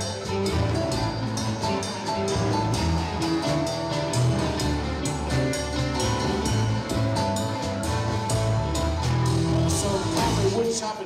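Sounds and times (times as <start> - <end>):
bass line: 0.0 - 10.9
drum kit beat: 0.0 - 11.0
electric guitar: 0.0 - 11.0.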